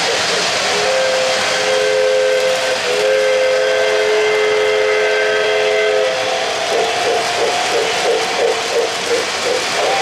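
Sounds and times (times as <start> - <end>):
model train rolling on track: 0.0 - 10.0
model train whistle: 0.6 - 7.2, 7.8 - 10.0.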